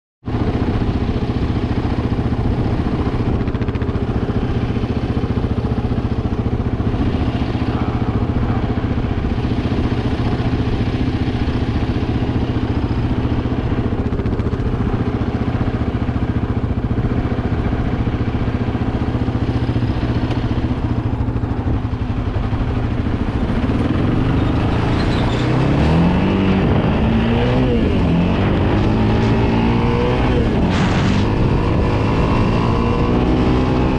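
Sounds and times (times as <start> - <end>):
four-stroke engine accelerating: 0.2 - 33.9.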